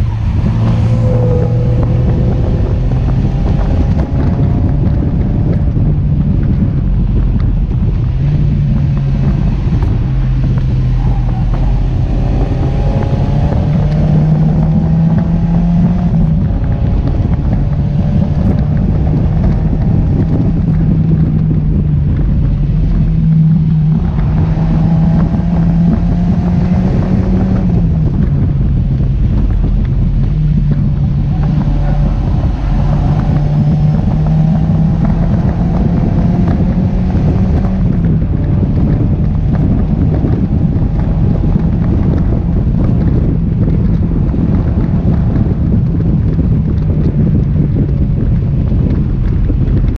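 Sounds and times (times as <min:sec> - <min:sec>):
car engine pulling: 0:00.0 - 0:50.0
wind rush on microphone: 0:00.0 - 0:50.0.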